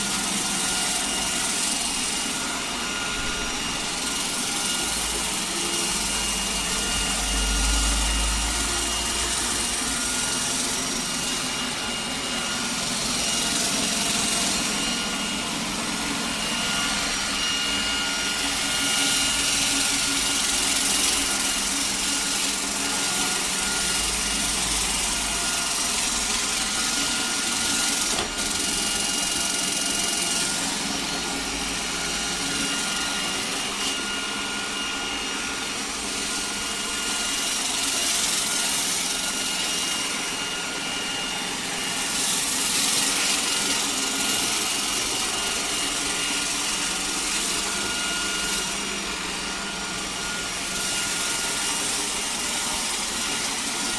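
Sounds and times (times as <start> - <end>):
robot vacuum cleaner running: 0.0 - 53.9.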